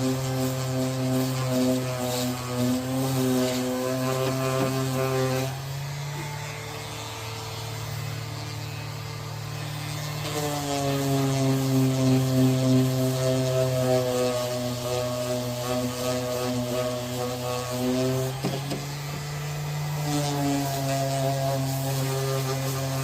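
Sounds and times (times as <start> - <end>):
electric motor humming: 0.0 - 23.0.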